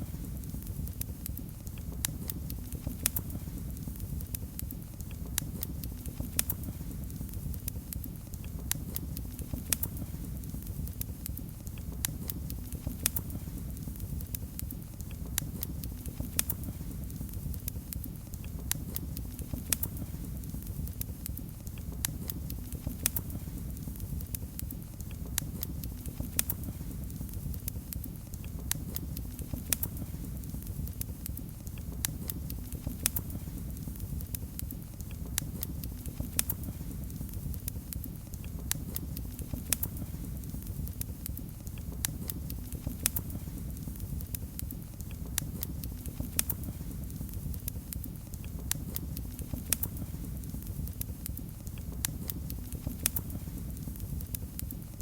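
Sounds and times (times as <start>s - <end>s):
fire crackling and popping: 0.0s - 55.0s
steady low rumble: 0.0s - 55.0s.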